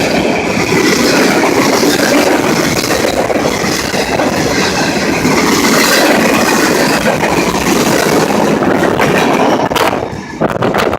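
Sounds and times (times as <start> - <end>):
freight train rumbling past: 0.0 - 10.9.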